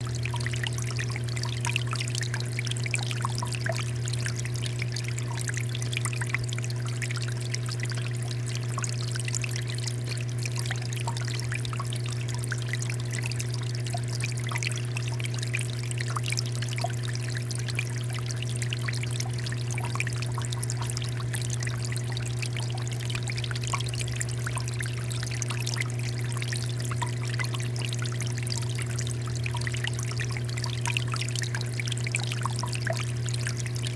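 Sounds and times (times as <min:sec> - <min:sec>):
fountain water trickling: 0:00.0 - 0:33.9.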